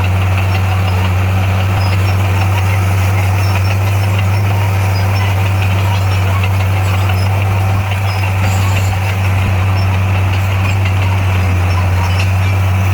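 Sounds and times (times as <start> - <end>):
bulldozer diesel engine humming: 0.0 - 12.9.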